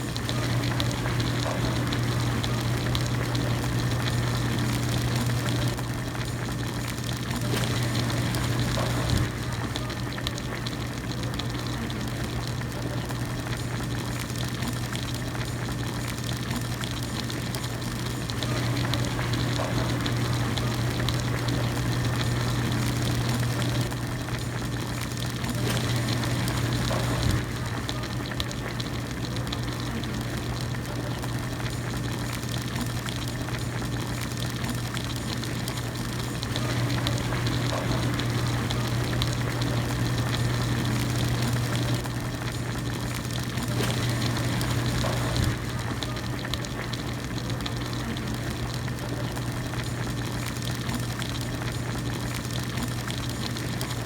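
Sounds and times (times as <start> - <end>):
broth boiling and bubbling: 0.0 - 54.0.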